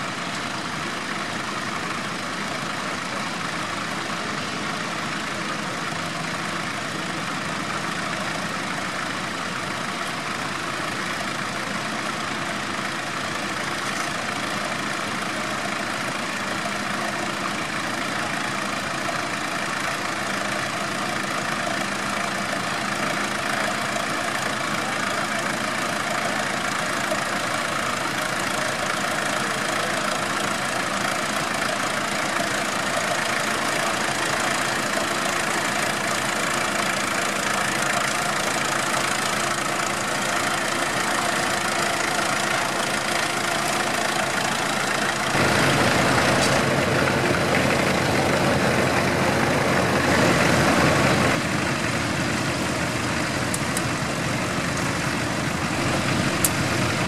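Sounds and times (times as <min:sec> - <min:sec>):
louder tractor engine: 0:00.0 - 0:57.0
tractor engine running: 0:00.0 - 0:57.0.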